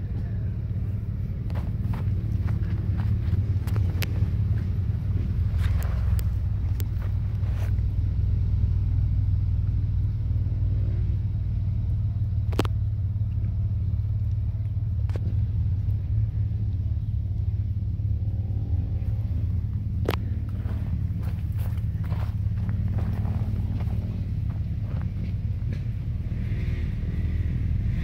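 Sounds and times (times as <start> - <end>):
truck engine running low: 0.0 - 28.0.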